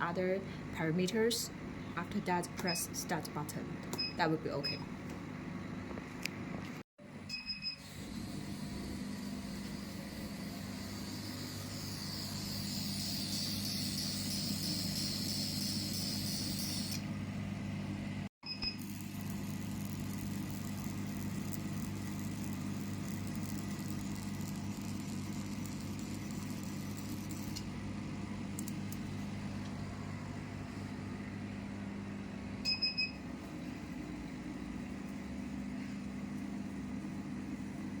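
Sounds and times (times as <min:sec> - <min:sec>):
laser machine electrical hum: 0:07.1 - 0:38.0.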